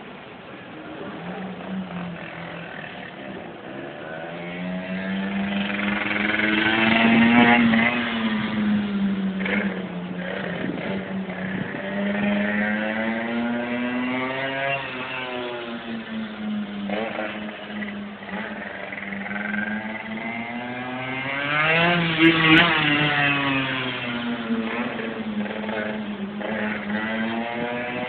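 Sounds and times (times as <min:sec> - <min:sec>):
mini motorbike engine revving: 0:01.2 - 0:28.0.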